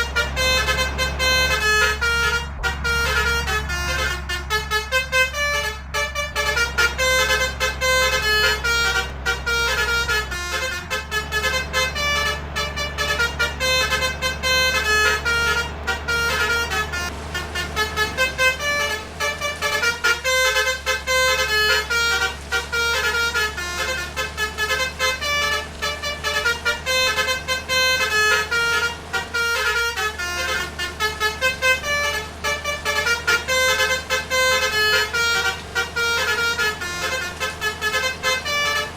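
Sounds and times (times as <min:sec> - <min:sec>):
multi-tone air horns melody: 0:00.0 - 0:38.9.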